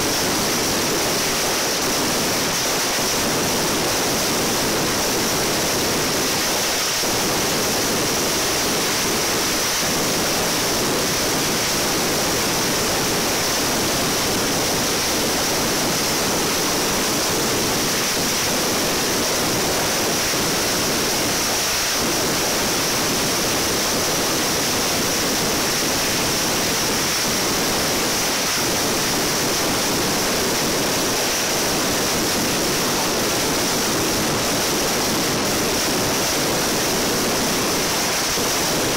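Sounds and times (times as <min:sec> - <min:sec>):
firecrackers in a dense barrage: 0:00.0 - 0:38.9.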